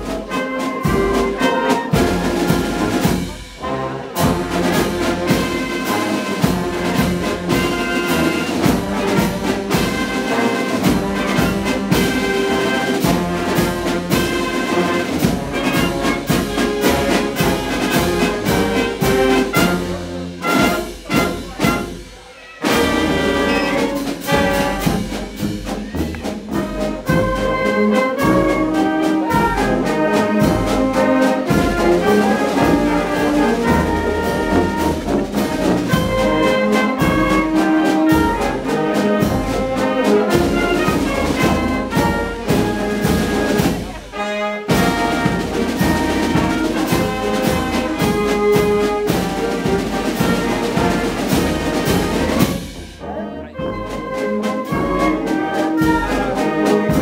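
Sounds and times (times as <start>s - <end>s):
fanfare band playing: 0.0s - 57.0s.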